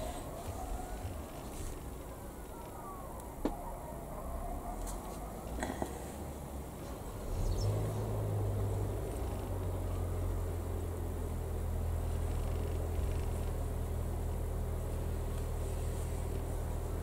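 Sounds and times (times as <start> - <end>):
low electric hum: 0.0 - 17.0.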